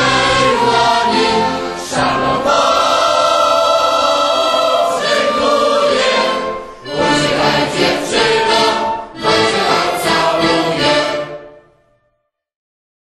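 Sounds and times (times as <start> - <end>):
choir singing: 0.0 - 11.8.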